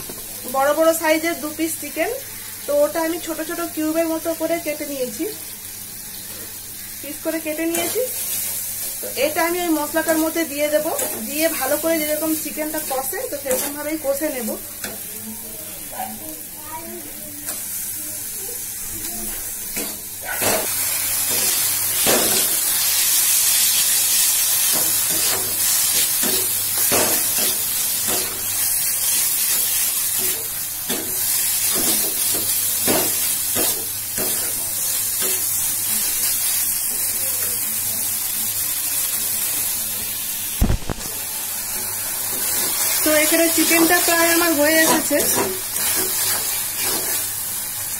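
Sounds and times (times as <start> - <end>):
chicken sizzling in a wok: 0.0 - 47.9.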